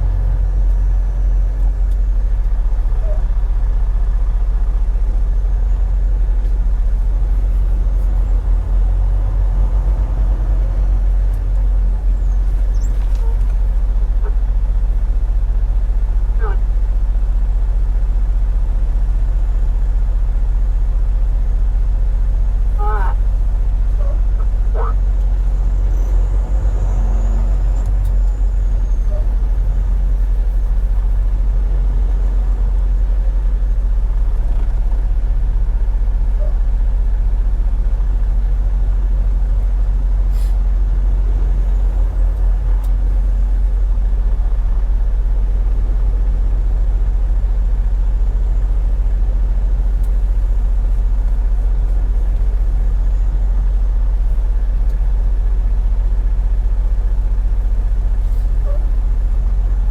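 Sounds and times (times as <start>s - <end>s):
truck engine and road drone: 0.0s - 59.9s.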